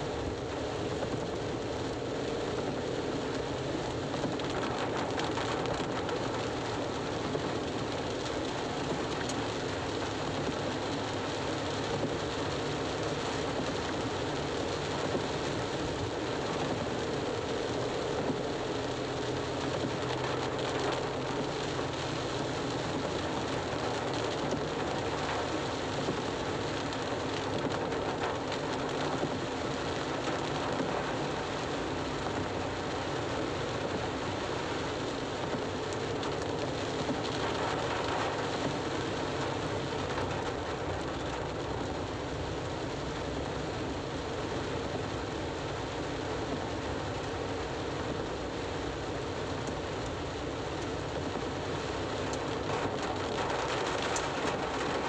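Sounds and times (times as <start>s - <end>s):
rain falling on a car: 0.0s - 55.0s
tyres on wet road: 0.0s - 55.0s.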